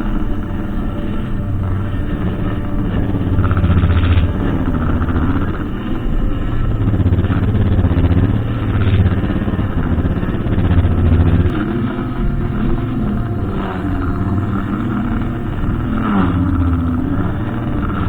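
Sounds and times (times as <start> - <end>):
brushcutter engine running: 0.0 - 18.0.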